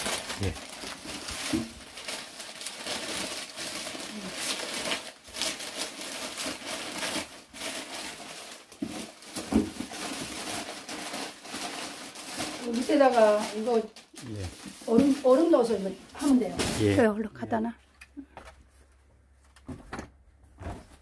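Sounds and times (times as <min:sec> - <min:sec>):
newspaper and plastic bag crinkling: 0:00.0 - 0:17.0.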